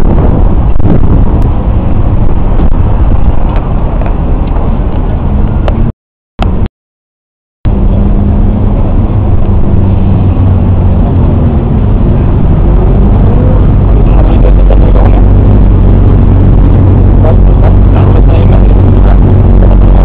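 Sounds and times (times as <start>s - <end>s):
low engine hum: 0.0s - 6.7s, 7.7s - 20.0s
road traffic rumble: 0.0s - 6.7s, 7.7s - 20.0s.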